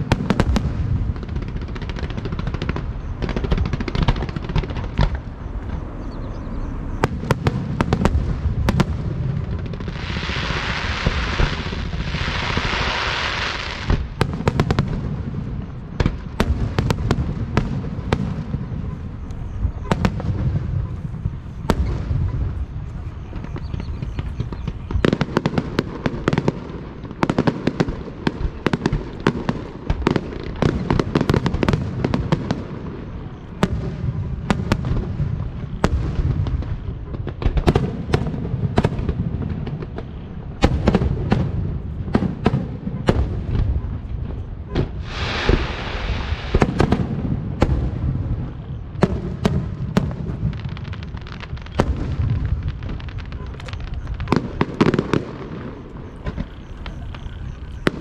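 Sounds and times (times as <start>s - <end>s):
fireworks hissing: 6.8s - 44.2s, 44.8s - 58.0s.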